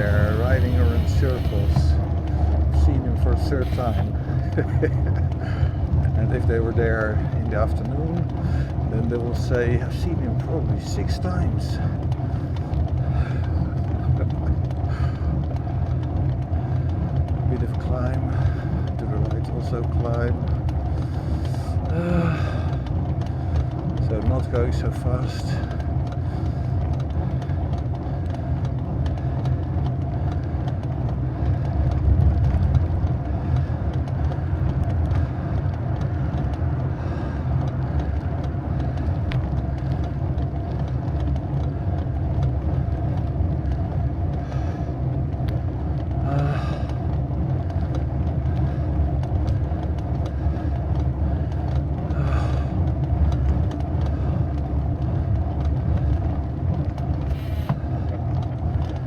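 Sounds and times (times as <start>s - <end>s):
bike rumbling and rattling on road: 0.0s - 59.0s
constant hum: 0.0s - 59.0s.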